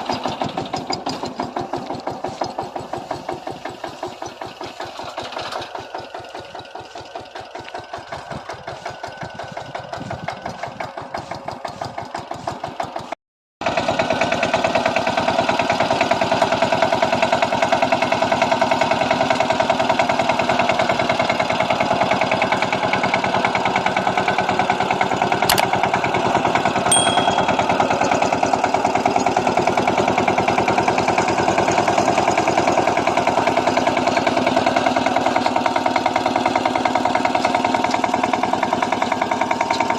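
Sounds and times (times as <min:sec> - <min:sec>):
diesel tiller engine chugging: 0:00.0 - 0:39.9.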